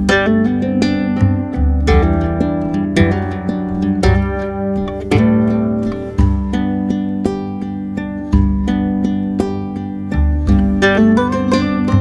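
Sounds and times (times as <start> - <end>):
low bass notes: 0.0 - 12.0
plucked string notes: 0.0 - 12.0.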